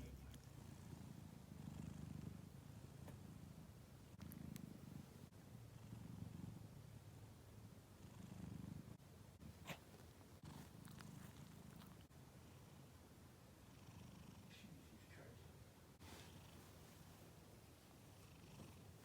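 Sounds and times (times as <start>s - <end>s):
cat purring: 0.0s - 15.3s, 16.0s - 19.0s.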